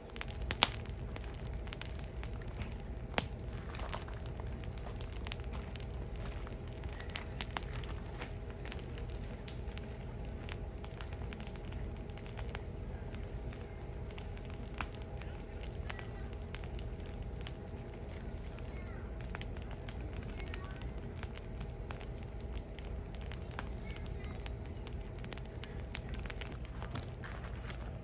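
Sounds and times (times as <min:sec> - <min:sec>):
firewood crackling and popping: 0:00.0 - 0:28.0
low rush of flames: 0:00.0 - 0:28.0.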